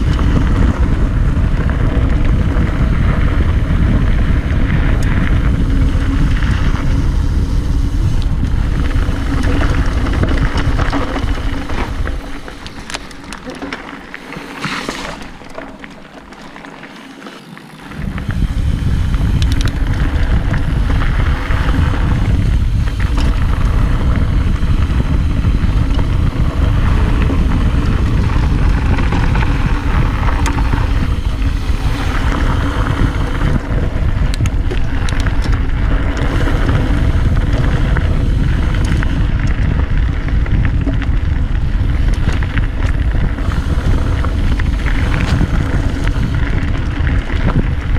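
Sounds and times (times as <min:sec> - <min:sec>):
wind buffeting microphone: 0:00.0 - 0:16.8, 0:17.5 - 0:47.9
bike rattling over bumps: 0:00.0 - 0:47.9
tyres hissing on dirt trail: 0:00.0 - 0:47.9.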